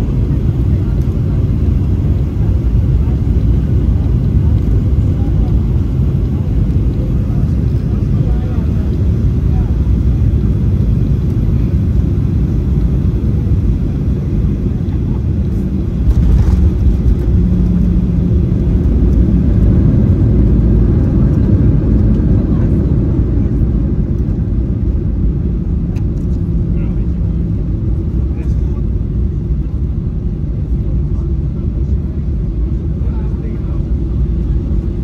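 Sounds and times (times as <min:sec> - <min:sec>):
jet engine low rumble: 0:00.0 - 0:35.0.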